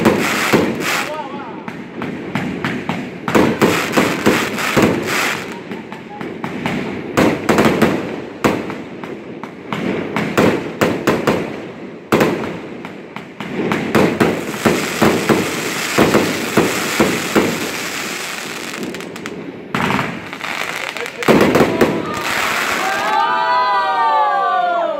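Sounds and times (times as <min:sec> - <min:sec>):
fireworks bangs and pops: 0:00.0 - 0:23.3.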